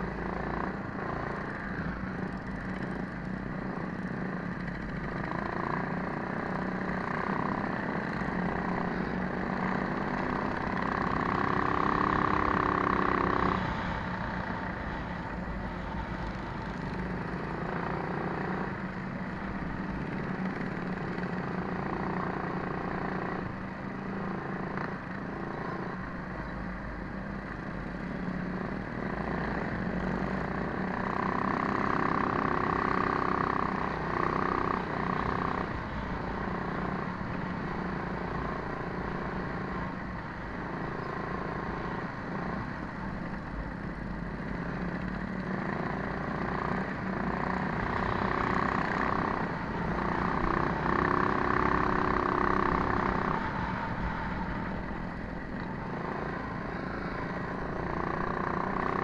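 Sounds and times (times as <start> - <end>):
minibike engine revving: 0.0 - 26.0, 28.1 - 59.0
other minibike engines running: 0.0 - 59.0.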